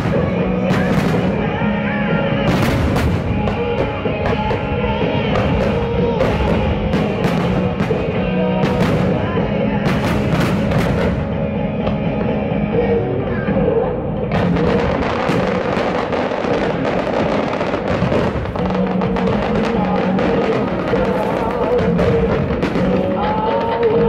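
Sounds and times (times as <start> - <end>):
fireworks bangs and crackles: 0.0 - 24.0
loud rock music: 0.0 - 24.0.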